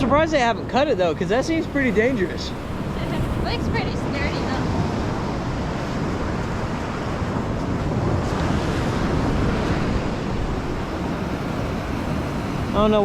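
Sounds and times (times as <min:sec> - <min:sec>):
ocean surf washing on shore: 0:00.0 - 0:13.0
wind buffeting microphone: 0:00.0 - 0:13.0.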